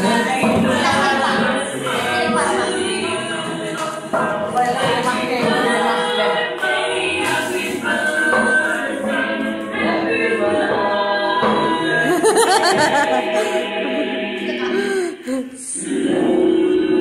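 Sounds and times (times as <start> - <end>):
group singing unaccompanied: 0.0 - 17.0.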